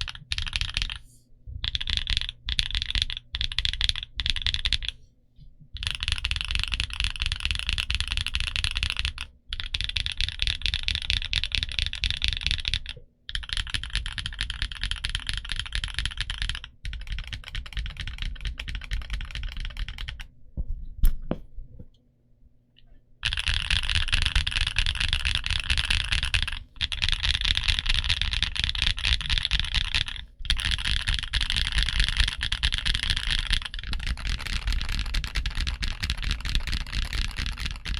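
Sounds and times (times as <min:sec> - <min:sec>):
fast typing on mechanical keyboard: 0:00.0 - 0:01.0, 0:01.6 - 0:05.0, 0:05.8 - 0:20.3, 0:23.2 - 0:37.9.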